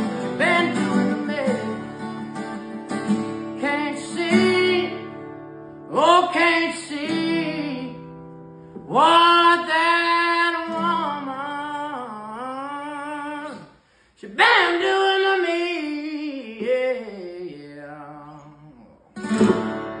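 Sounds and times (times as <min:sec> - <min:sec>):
acoustic guitar: 0:00.0 - 0:20.0
country-style singing: 0:00.0 - 0:20.0.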